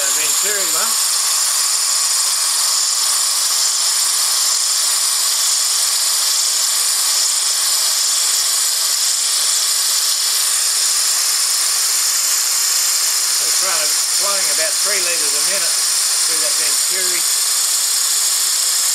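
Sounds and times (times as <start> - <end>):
compressed air hissing: 0.0 - 18.9.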